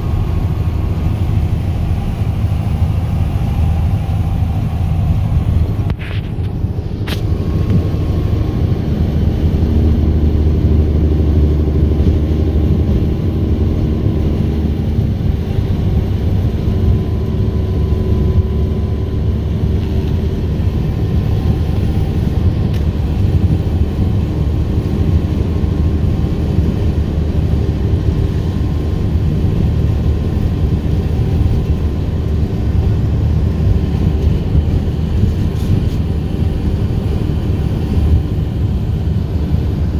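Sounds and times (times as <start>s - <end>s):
truck diesel engine drone: 0.0s - 39.9s
tyre and road noise: 0.0s - 39.9s.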